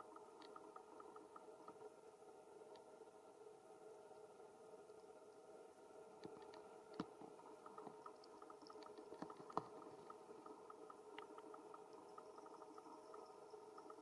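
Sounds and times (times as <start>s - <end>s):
soft regular ticks: 0.0s - 14.0s
steady hum: 0.0s - 14.0s.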